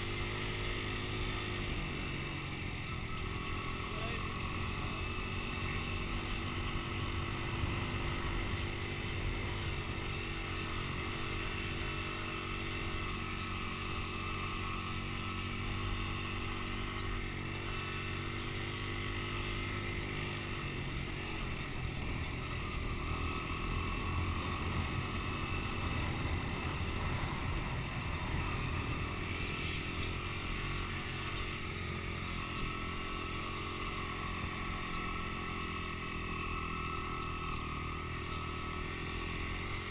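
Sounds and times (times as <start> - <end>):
dirt bike engine droning: 0.0 - 39.9.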